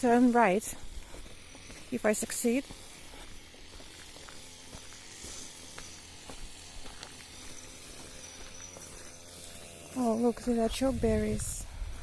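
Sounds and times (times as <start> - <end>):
light footsteps: 0.0 - 10.8
distant lawn mower: 0.0 - 12.0.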